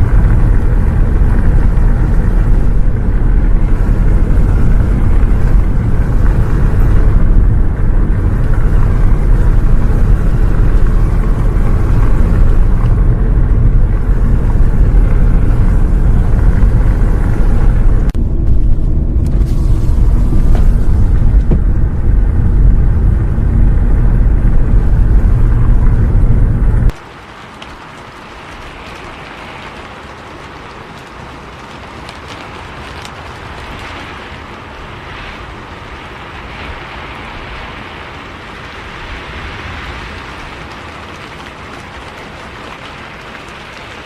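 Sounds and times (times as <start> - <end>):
bus engine and road noise: 0.0 - 44.0.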